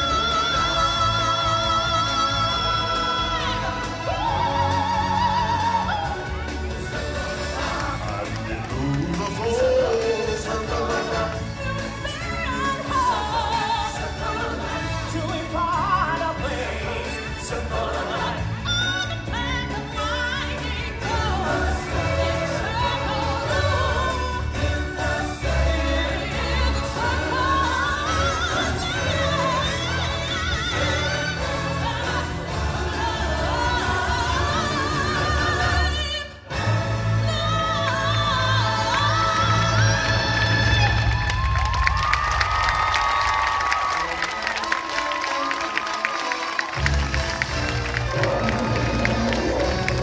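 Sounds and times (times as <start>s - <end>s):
steady bass accompaniment: 0.0s - 42.2s, 46.8s - 50.0s.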